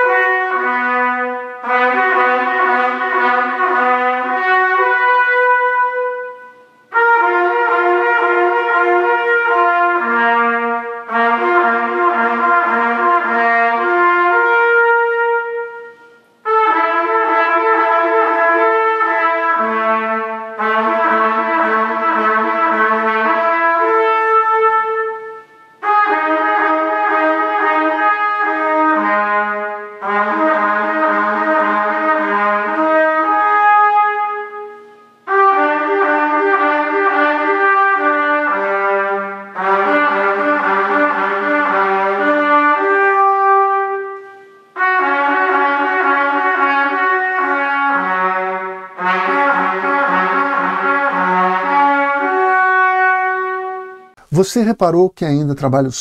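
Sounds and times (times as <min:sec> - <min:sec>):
trumpet playing slurred notes: 0:00.0 - 0:55.2.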